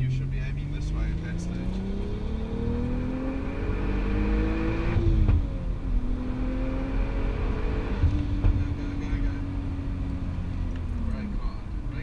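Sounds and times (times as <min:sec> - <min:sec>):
car engine pulling from inside cabin: 0:00.0 - 0:12.0.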